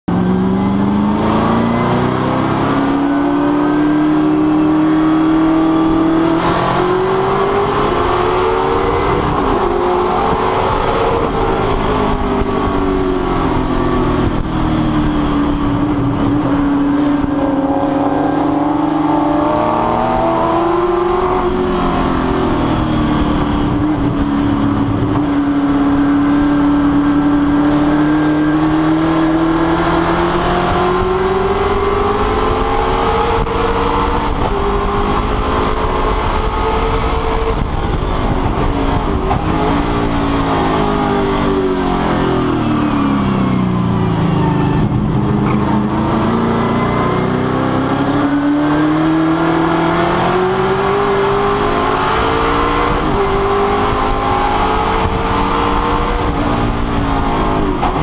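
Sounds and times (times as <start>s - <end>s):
race car engine revving: 0.1s - 58.0s.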